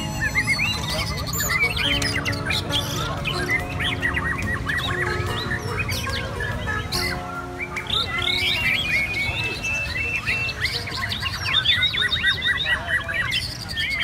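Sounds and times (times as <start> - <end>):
birds singing whistled phrases: 0.0 - 14.0.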